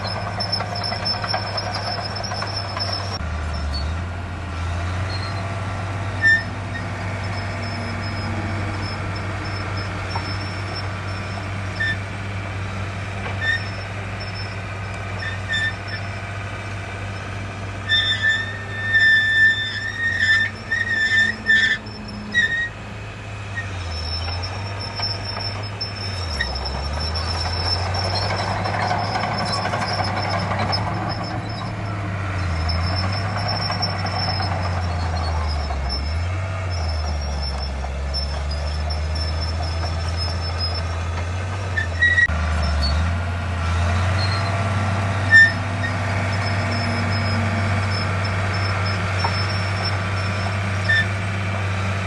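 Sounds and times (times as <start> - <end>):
diesel machinery engine running: 0.0 - 52.0.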